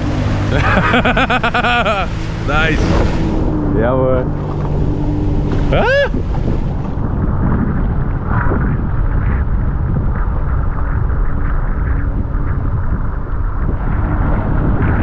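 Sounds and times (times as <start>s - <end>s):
jet ski engine running: 0.0s - 15.0s
wind buffeting microphone: 0.0s - 15.0s.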